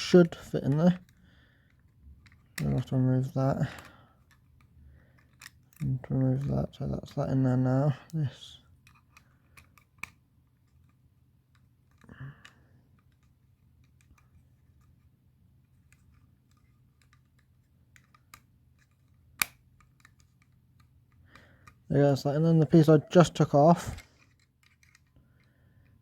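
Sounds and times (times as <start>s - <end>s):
plastic puzzle pieces clicking: 0.2s - 2.9s, 3.6s - 7.2s, 8.8s - 15.1s, 15.7s - 21.9s, 23.3s - 26.0s.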